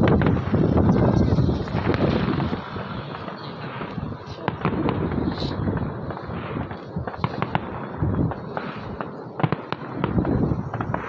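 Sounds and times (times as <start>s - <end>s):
distant fireworks popping and crackling: 0.0s - 11.0s.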